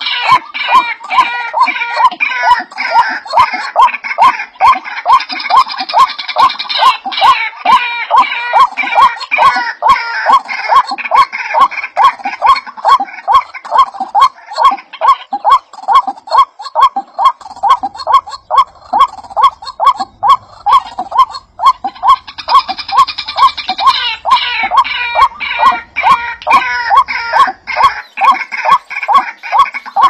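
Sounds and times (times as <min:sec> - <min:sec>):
clucking bird call: 0:00.0 - 0:30.0
high twittering bird calls: 0:00.0 - 0:30.0.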